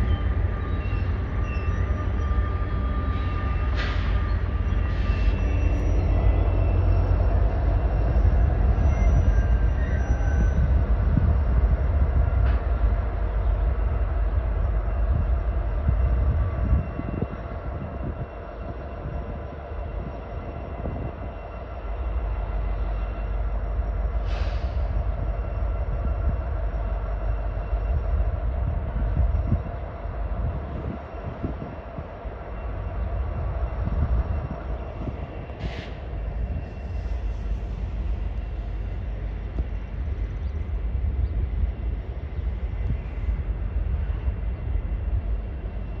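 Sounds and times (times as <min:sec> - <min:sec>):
freight train rumbling: 0:00.0 - 0:46.0.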